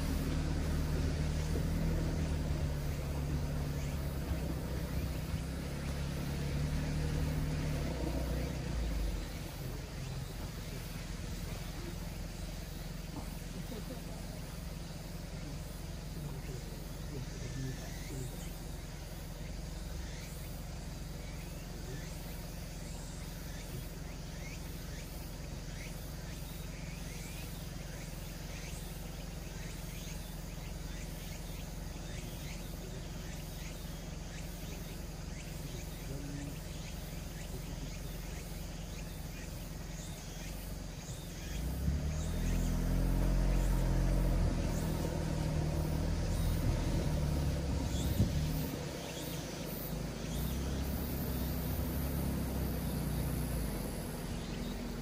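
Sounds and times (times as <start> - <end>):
diesel vehicle engine humming: 0.0 - 55.0.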